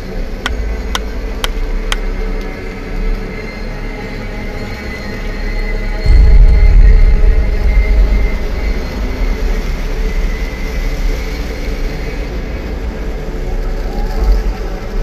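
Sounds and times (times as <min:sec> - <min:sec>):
faint sustained tones: 0:00.0 - 0:15.0
low rumbling drone: 0:00.0 - 0:15.0.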